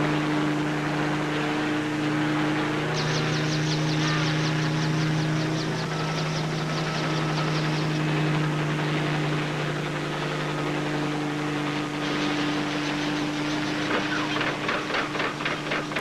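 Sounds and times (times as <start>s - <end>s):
helicopter engine drone: 0.0s - 16.0s
helicopter rotor chop: 0.0s - 16.0s.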